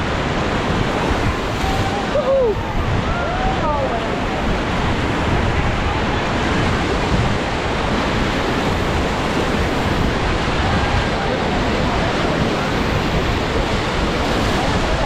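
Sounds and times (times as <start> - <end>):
river rapids roaring: 0.0 - 15.0.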